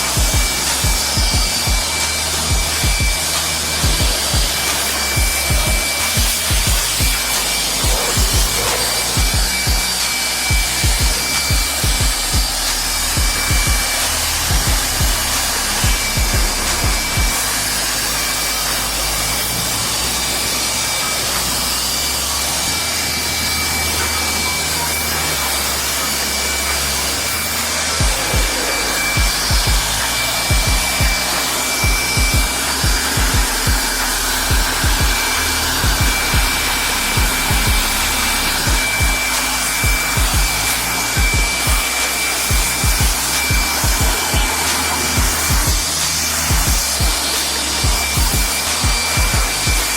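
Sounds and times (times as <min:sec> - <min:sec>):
high-pressure water jet hissing: 0:00.0 - 0:49.9.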